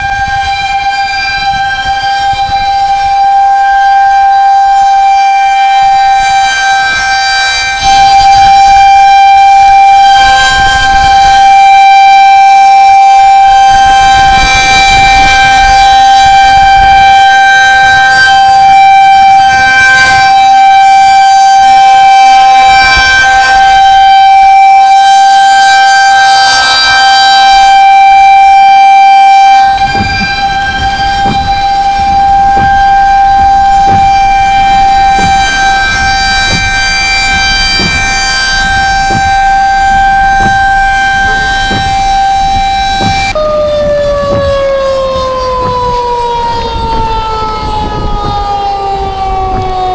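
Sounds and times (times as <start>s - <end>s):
tornado warning siren: 0.0s - 49.9s.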